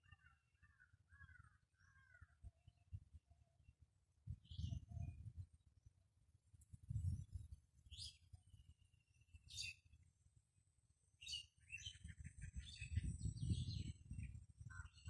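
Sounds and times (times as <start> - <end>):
small birds chirping: 0.0 - 5.9, 6.6 - 10.2, 11.2 - 15.0.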